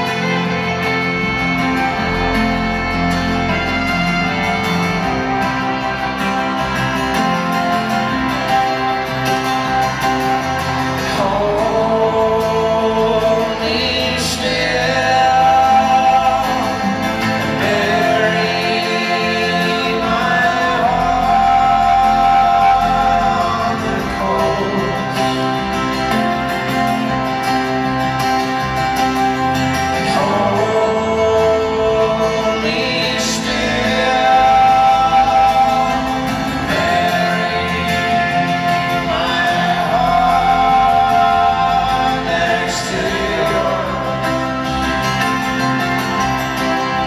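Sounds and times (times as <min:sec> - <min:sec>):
fiddle with sliding notes: 0:00.0 - 0:47.0
live folk-rock band: 0:00.0 - 0:47.0.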